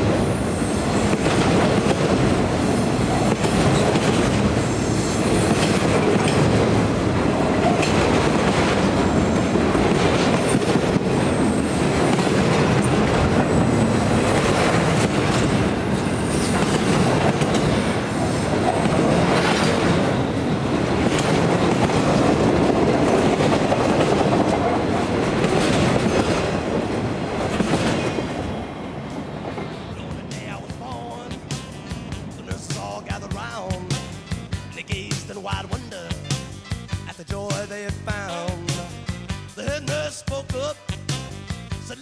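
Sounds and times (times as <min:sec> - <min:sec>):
railcar clanks: 0:00.0 - 0:42.0
train wheels on rail: 0:00.0 - 0:42.0.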